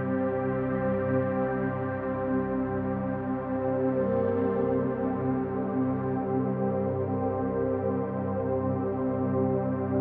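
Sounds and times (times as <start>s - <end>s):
ambient music of held chords: 0.0s - 10.0s.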